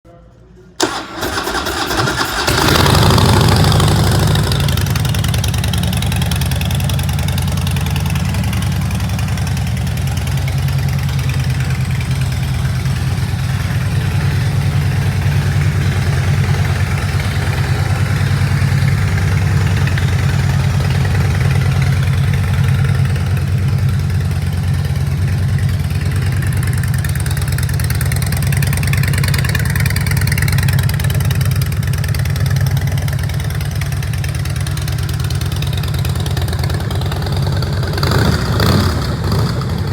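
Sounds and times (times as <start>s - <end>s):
motorcycle engine idling: 1.8s - 39.9s.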